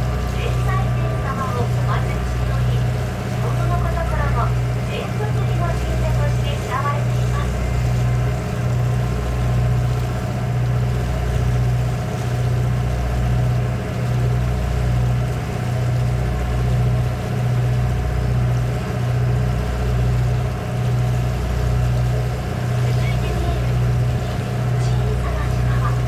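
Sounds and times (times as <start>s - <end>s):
boat engine pulsing drone: 0.0s - 26.0s.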